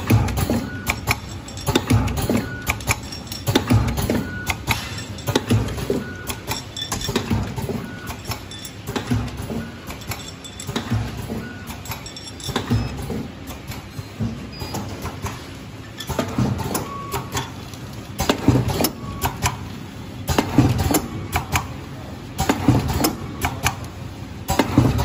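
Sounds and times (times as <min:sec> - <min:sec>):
packing machine clicking and knocking: 0:00.0 - 0:25.0.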